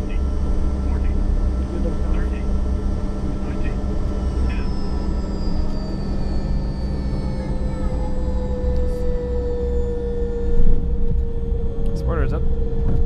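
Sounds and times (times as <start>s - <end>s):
jet engines whining: 0.0s - 13.0s
low rumble: 0.0s - 13.0s.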